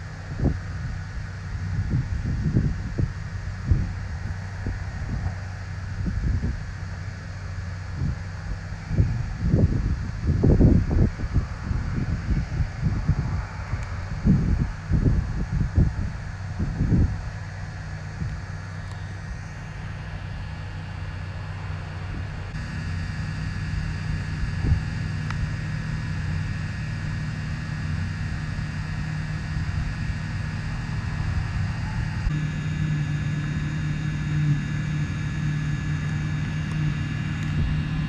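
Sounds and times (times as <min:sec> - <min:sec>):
combine harvester engine hum: 0:00.0 - 0:38.0.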